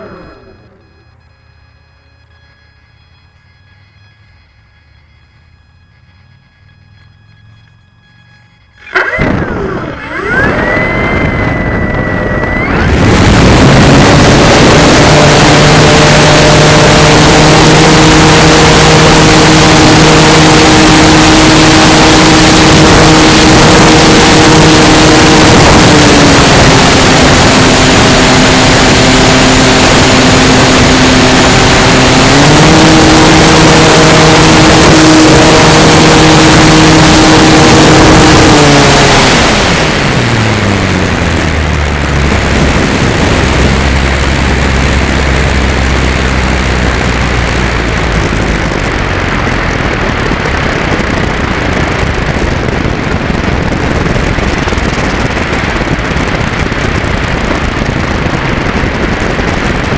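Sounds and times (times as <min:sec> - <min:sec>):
electric motor and propeller whine: 0:00.0 - 0:59.9
wind rush on microphone: 0:09.2 - 0:59.9.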